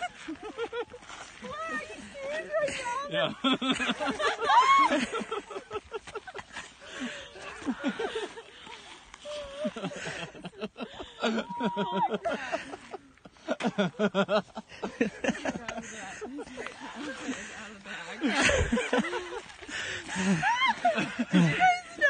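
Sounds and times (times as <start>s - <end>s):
giggling: 0.0s - 22.0s.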